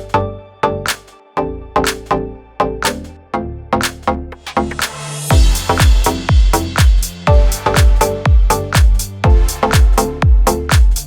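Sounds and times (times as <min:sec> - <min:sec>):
electronic house music: 0:00.0 - 0:11.0.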